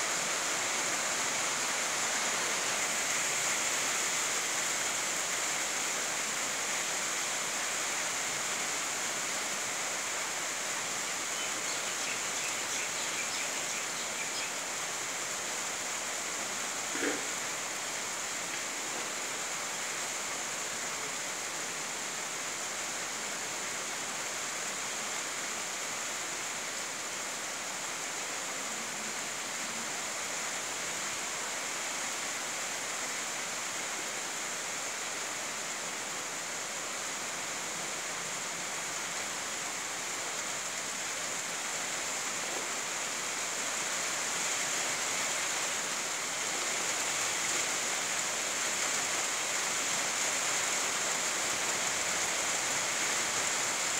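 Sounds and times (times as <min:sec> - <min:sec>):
rain on grass and trees: 0:00.0 - 0:53.9.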